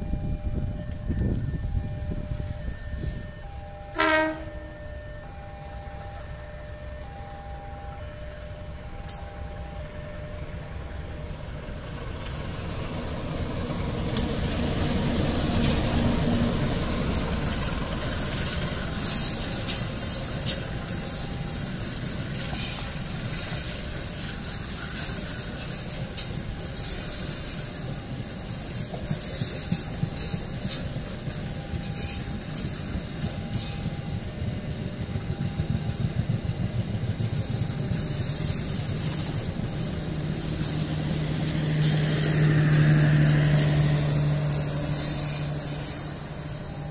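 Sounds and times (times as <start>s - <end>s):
diesel engine drone: 0.0s - 46.9s
train wheels clicking over rails: 9.0s - 46.9s.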